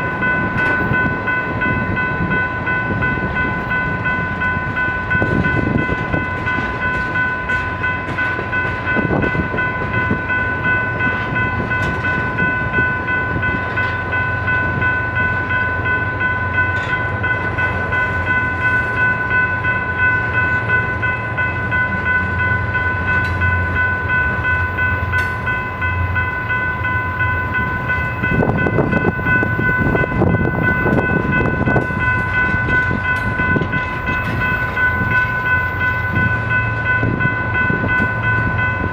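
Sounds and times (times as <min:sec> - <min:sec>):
high-pitched ringing tone: 0:00.0 - 0:38.9
knocks and clatter of freight cars: 0:00.0 - 0:38.9
train wheels rumbling on rail: 0:00.0 - 0:38.9.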